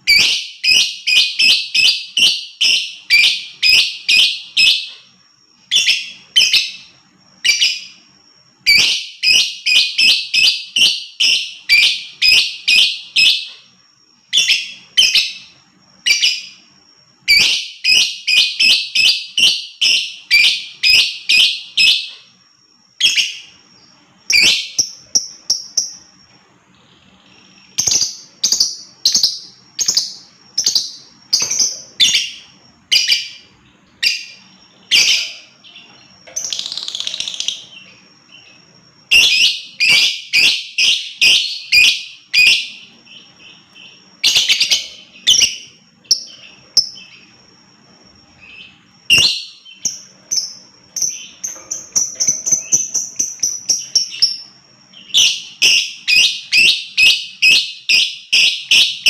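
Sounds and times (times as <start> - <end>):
lovebird chirping: 0.0 - 59.0.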